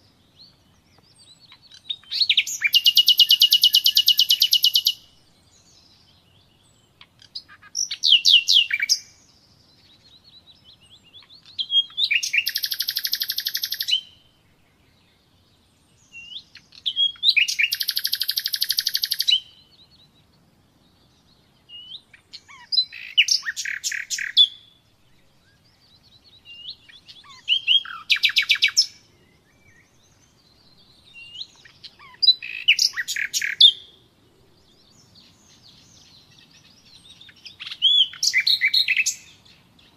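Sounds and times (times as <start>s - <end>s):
nightingale singing trills: 0.0s - 39.9s.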